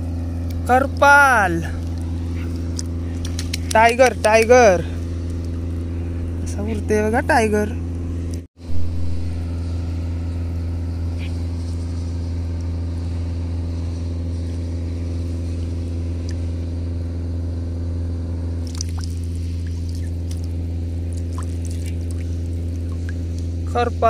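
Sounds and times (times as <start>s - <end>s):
engine droning steadily: 0.0s - 24.0s.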